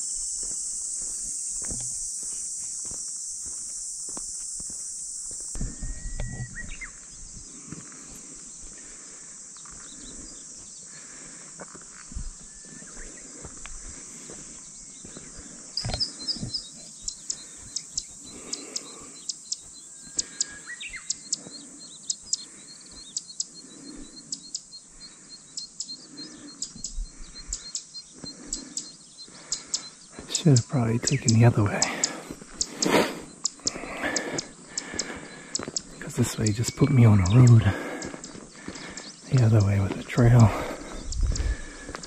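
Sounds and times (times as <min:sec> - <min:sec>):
footsteps on a path: 0:00.0 - 0:23.2, 0:28.1 - 0:42.0
cicadas droning: 0:00.0 - 0:42.0.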